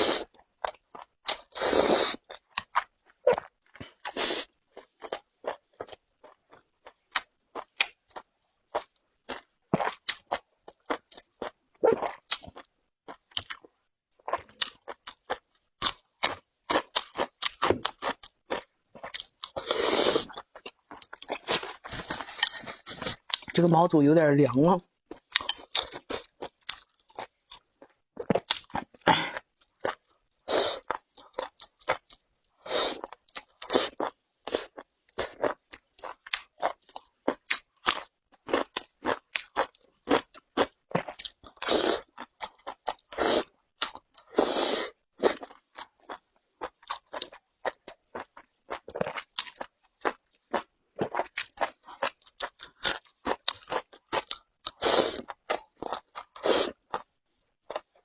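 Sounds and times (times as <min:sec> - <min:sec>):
chewing crunchy food: 0:00.0 - 0:23.8, 0:25.0 - 0:58.0.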